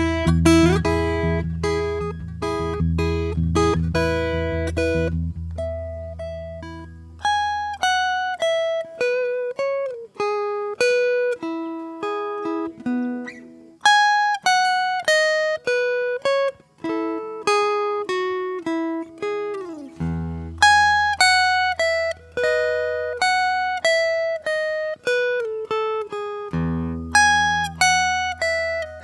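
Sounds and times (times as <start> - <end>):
acoustic guitar plucked slowly: 0.0 - 29.0.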